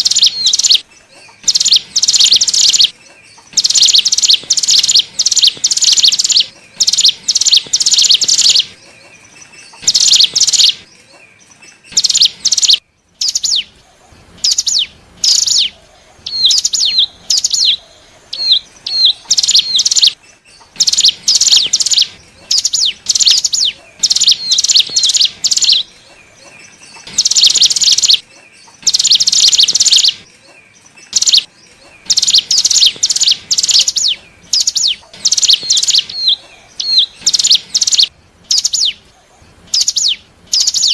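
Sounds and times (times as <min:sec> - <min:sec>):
bird high sharp chirps: 0:00.0 - 0:13.8, 0:14.4 - 0:40.9.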